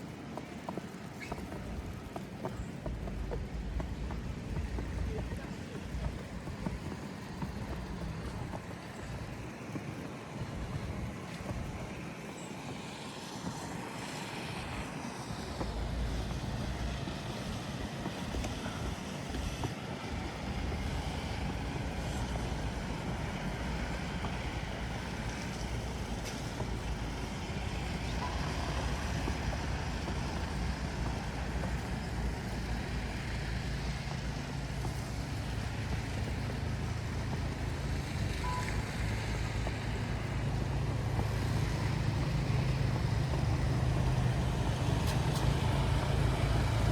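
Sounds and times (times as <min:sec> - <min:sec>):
city traffic: 0:00.0 - 0:46.9
vehicle engine rumbling nearby: 0:00.0 - 0:46.9.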